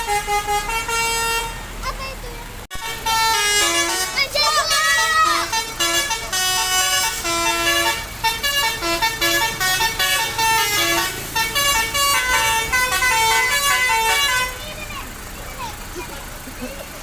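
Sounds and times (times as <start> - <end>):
multi-tone bus horn melody: 0.0 - 14.8.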